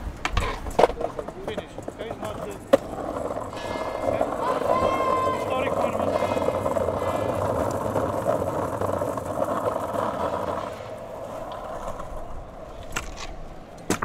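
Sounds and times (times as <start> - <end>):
scooter wheels rolling on stone: 0.0 - 14.0.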